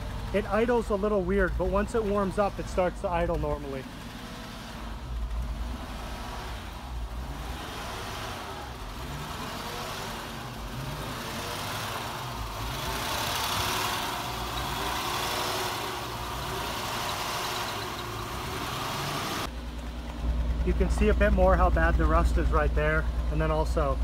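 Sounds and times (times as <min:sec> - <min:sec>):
car engine idling unevenly: 0:00.0 - 0:24.0.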